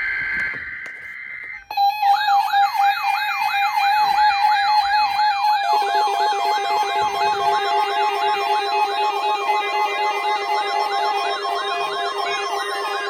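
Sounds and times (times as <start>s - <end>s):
electronic siren alert tone: 0.0s - 13.0s
steady high tone: 0.0s - 13.0s.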